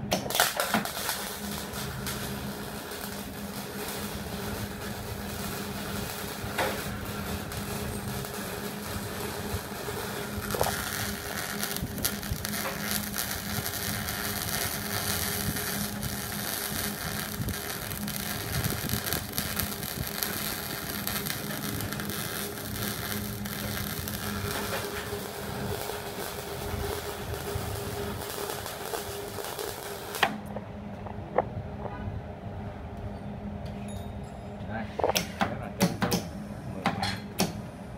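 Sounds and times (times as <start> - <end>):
welding arc crackling: 0.0 - 30.5
transformer hum: 0.0 - 36.8.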